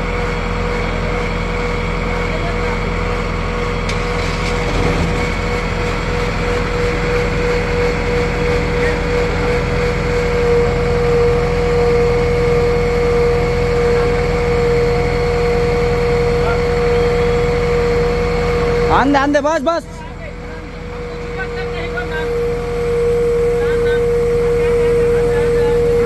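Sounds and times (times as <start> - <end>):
engine running with high whine: 0.0 - 26.0.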